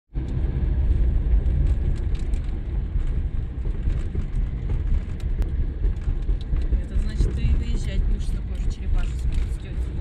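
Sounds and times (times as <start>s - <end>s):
car cabin road and engine rumble: 0.1s - 10.0s.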